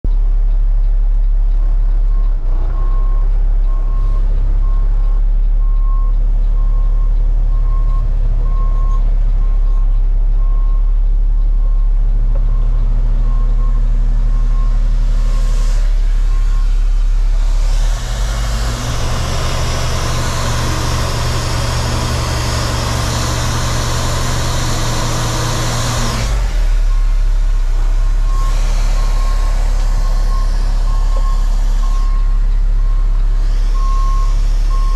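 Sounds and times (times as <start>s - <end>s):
diesel engine running: 0.0s - 34.9s
reversing alarm beeping: 2.1s - 16.8s, 18.6s - 27.2s, 28.0s - 34.9s.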